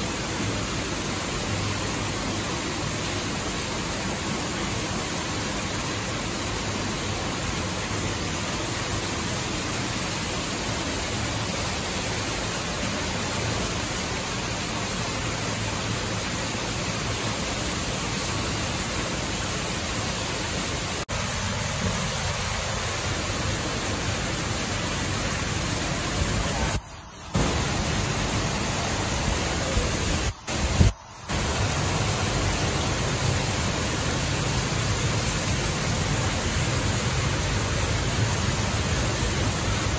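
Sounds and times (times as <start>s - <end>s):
water running into pond: 0.0s - 39.9s.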